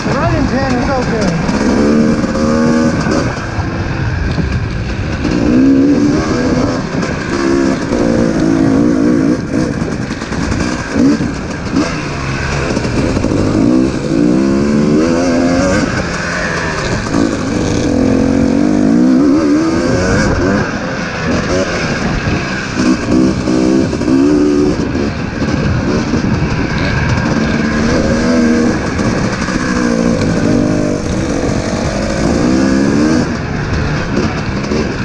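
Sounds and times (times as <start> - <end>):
dirt bike engine revving: 0.0 - 35.0
wind on microphone: 0.0 - 35.0.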